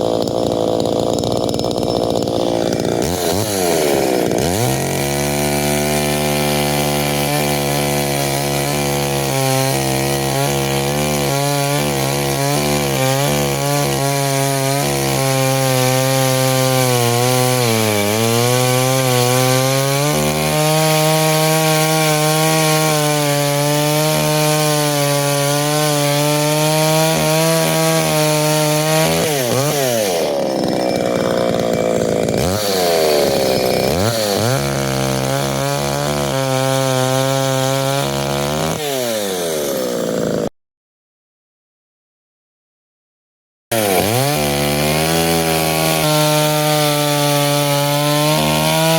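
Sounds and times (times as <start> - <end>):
chainsaw cutting log: 0.0 - 40.5, 43.7 - 48.9.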